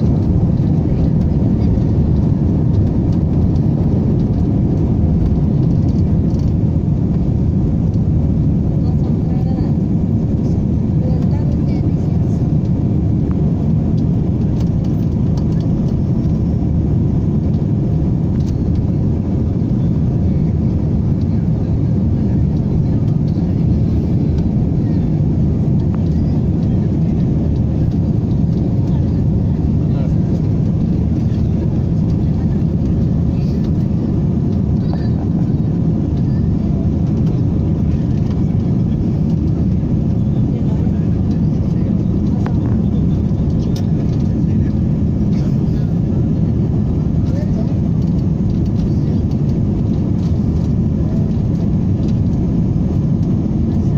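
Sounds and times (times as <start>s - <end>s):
airliner engines rumbling: 0.0s - 53.9s.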